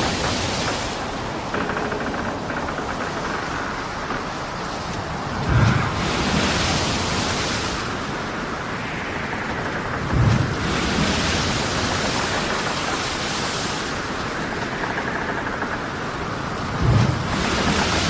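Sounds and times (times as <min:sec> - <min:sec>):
wind and water rushing: 0:00.0 - 0:18.0.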